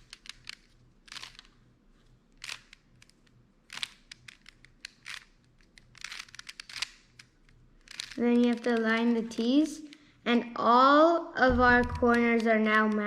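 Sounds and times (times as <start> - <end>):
puzzle cube plastic clicks: 0.0 - 1.6, 2.3 - 10.0, 11.6 - 13.0.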